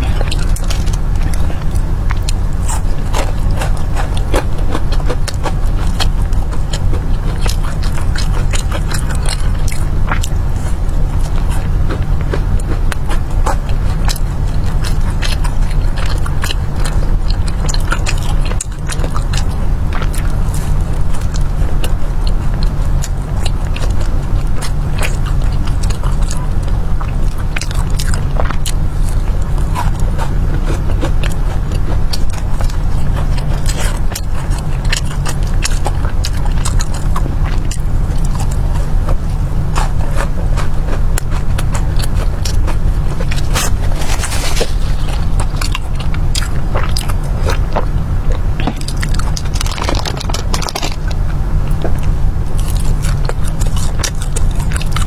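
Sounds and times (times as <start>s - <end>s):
low rumble: 0.0s - 55.0s
person crunching fried pastries: 0.0s - 55.0s.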